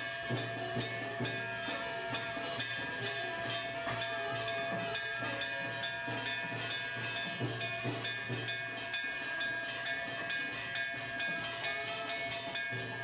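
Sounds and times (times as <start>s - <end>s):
drum beating: 0.0s - 13.0s
sustained ringing tones: 0.0s - 13.0s.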